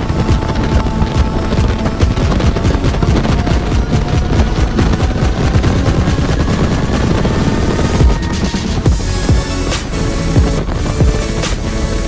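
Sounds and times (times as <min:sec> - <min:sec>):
helicopter rotor noise: 0:00.0 - 0:12.0
wind buffeting microphone: 0:00.0 - 0:12.0.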